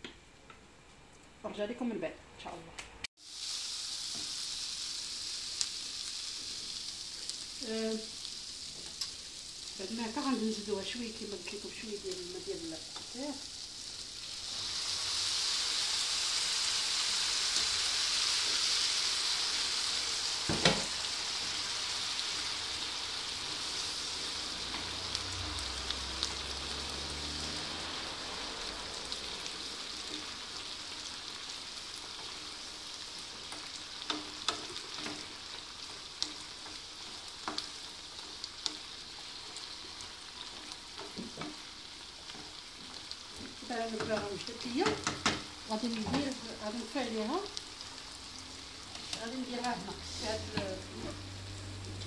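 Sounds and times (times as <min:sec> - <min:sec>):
vegetables sizzling in frying pan: 0:03.1 - 0:52.0
water splashing into hot pan: 0:03.2 - 0:12.3, 0:14.1 - 0:52.0.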